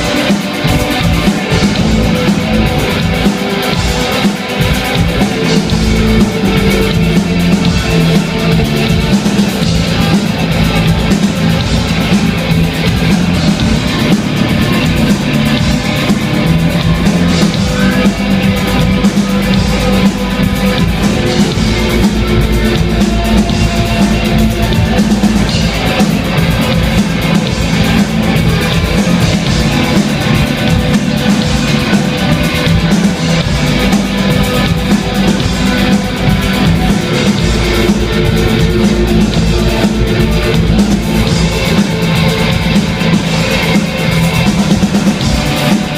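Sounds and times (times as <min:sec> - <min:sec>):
instrumental rock band playing: 0:00.0 - 0:45.9.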